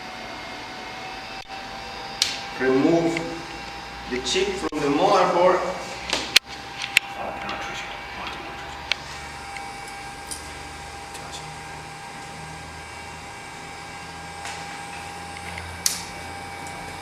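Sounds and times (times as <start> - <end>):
constant high whine: 0.0 - 17.0
fan whirring: 0.0 - 17.0.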